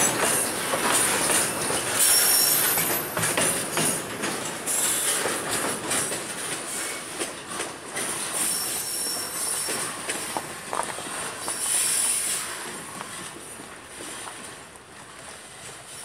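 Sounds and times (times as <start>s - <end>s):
steel wheels squealing on rails: 0.0s - 16.0s
train rolling rumble: 0.0s - 16.0s.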